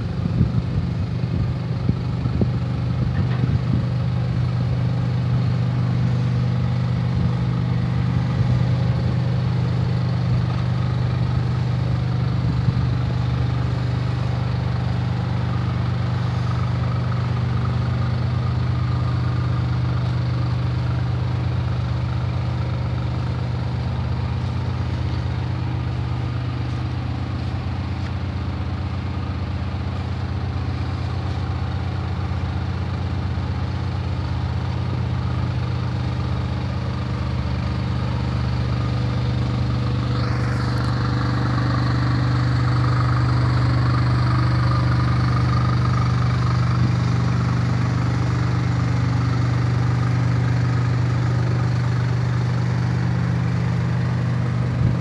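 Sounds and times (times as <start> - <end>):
locomotive engine idling: 0.0 - 55.0.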